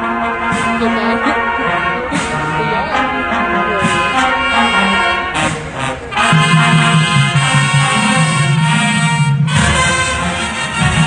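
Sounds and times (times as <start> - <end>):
marching band brass: 0.0 - 11.0
pulsing low bass line: 0.8 - 11.0.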